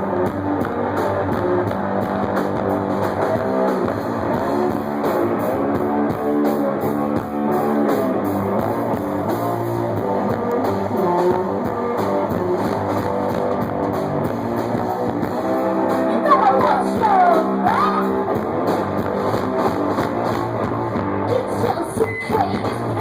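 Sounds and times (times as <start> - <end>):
drum kit: 0.0 - 23.0
electric guitar riffing: 0.0 - 23.0.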